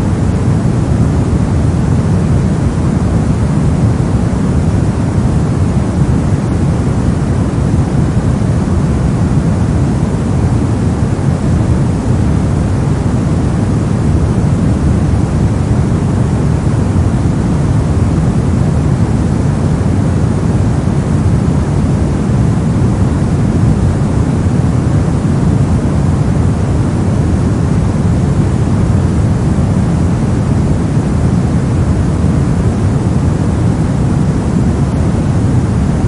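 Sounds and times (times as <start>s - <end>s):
low steady noise hiss: 0.0s - 36.0s.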